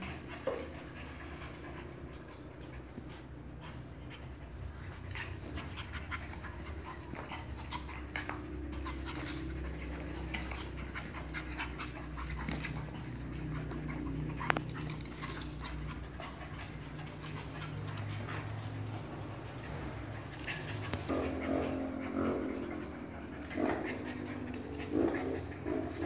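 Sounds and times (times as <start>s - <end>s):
paws clicking and scuffling on tile: 0.0s - 26.0s
puppies panting: 0.0s - 26.0s.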